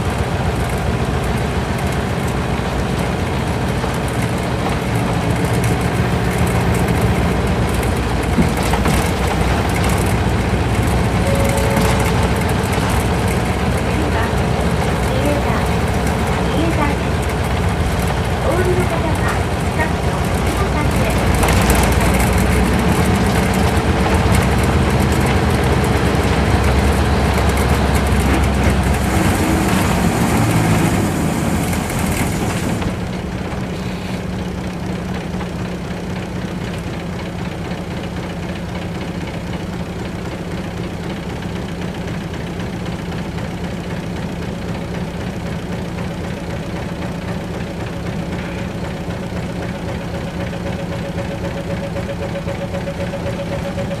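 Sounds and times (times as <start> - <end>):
bus diesel engine: 0.0 - 54.0
road noise: 0.0 - 54.0.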